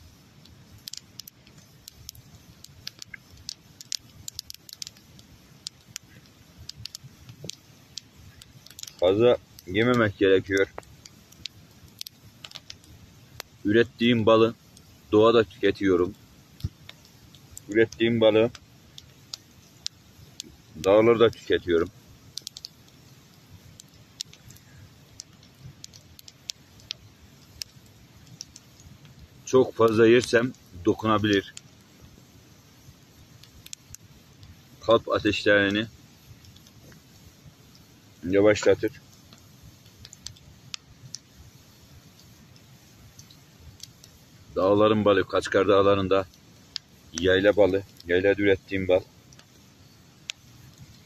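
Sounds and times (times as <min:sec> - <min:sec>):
campfire crackling: 0:00.0 - 0:51.0
low hiss: 0:00.0 - 0:51.0.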